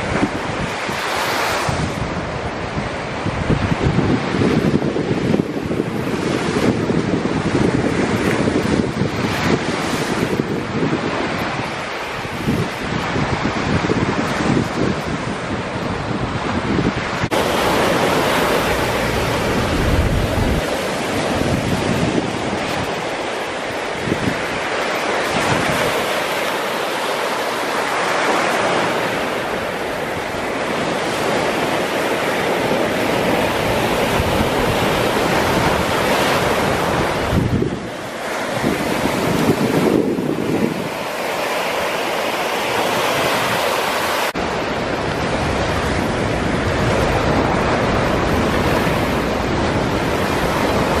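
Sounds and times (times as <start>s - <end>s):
surf washing up a beach: 0.0s - 51.0s
wind buffeting microphone: 0.0s - 51.0s.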